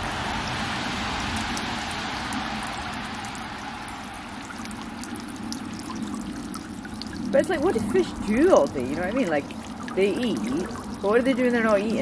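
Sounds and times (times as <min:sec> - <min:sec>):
running water trickling: 0:00.0 - 0:12.0.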